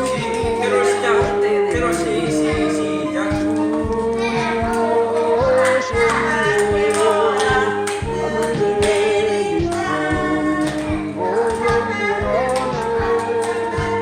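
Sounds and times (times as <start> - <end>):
group singing a hymn: 0.0 - 14.0
instrumental accompaniment with beat: 0.0 - 14.0.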